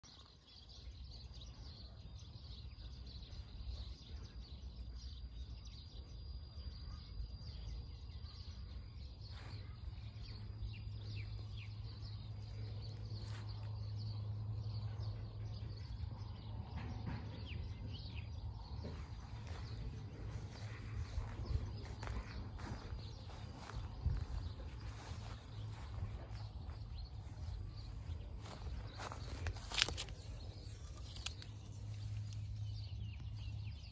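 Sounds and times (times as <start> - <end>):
birds chirping: 0.0 - 33.9
steady low rumble: 2.6 - 33.9.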